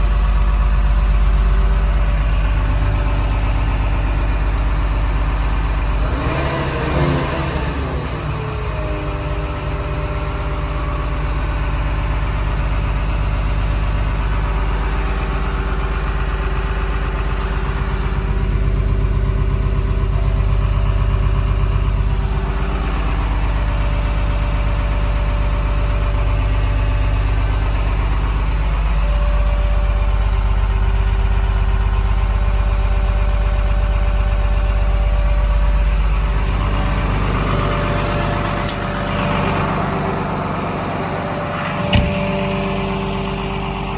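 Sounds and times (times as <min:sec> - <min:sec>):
bulldozer diesel engine running: 0:00.0 - 0:43.9.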